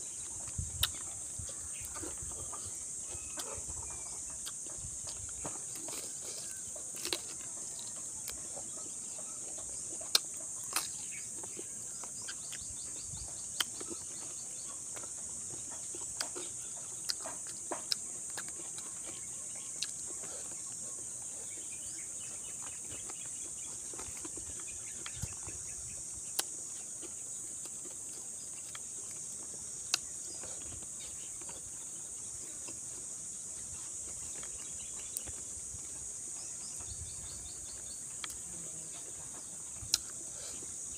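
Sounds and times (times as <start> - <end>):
person chewing and smacking: 0.2 - 20.8, 22.5 - 35.9, 38.1 - 38.4, 39.8 - 40.7.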